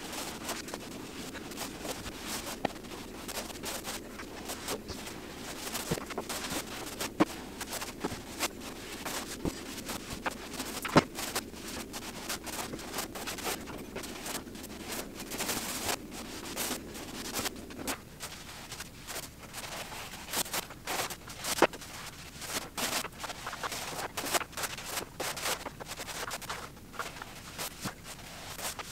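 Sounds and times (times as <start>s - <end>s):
low steady hum: 0.0s - 28.9s
paintbrush scraping and swishing: 0.0s - 28.9s.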